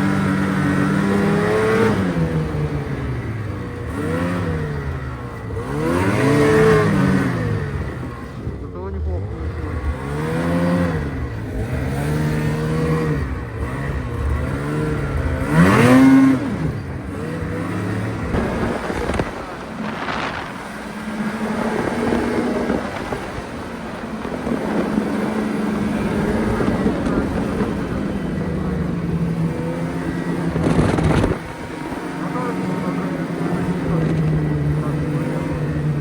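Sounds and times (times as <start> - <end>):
vehicle engine revving: 0.0 - 36.0.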